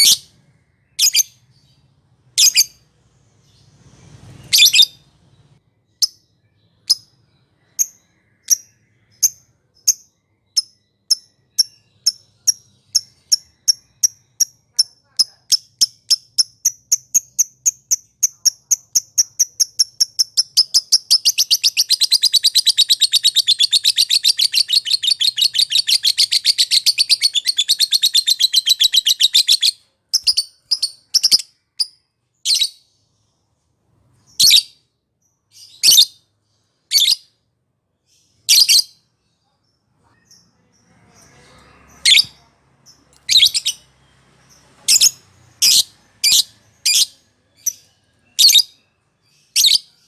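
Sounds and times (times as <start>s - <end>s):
lovebird chirping: 0.0s - 50.0s.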